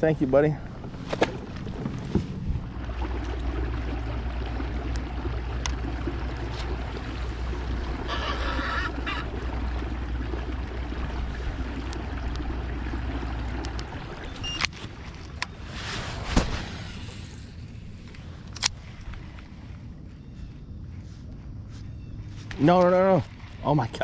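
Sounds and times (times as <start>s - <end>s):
wind and water rumble: 0.0s - 24.0s.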